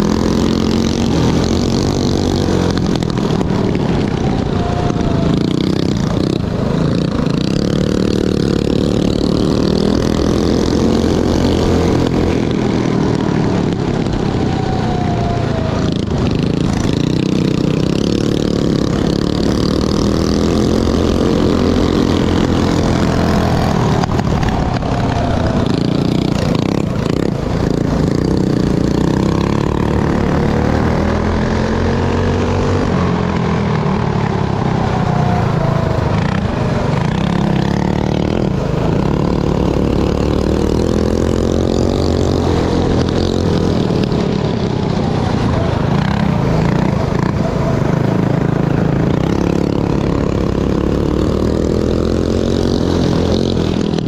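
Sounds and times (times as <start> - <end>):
mini bike engine revving: 0.0 - 54.0.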